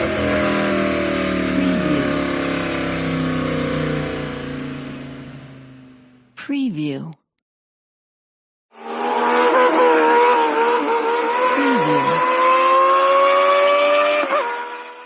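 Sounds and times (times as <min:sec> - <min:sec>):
racing car engine at high revs: 0:00.0 - 0:05.9, 0:08.7 - 0:15.0.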